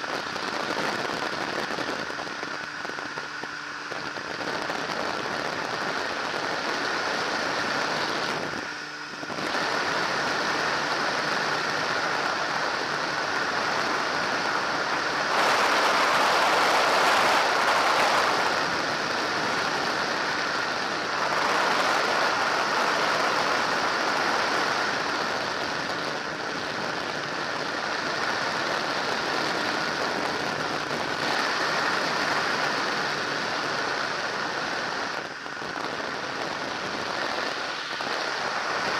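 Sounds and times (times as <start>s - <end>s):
light aircraft engine running: 0.0s - 38.9s
wind rush on microphone: 0.0s - 38.9s.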